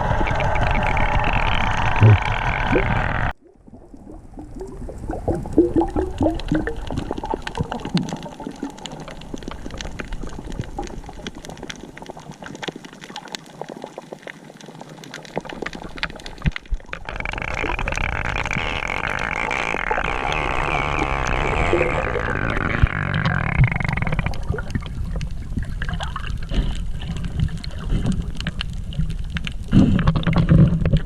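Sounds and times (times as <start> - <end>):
underwater bubbling gurgles: 0.0 - 31.0
crackle of tiny clicks: 0.2 - 31.0.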